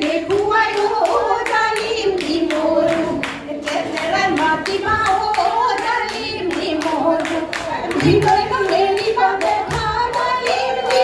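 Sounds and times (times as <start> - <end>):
hand clapping: 0.0 - 11.0
women singing: 0.0 - 11.0.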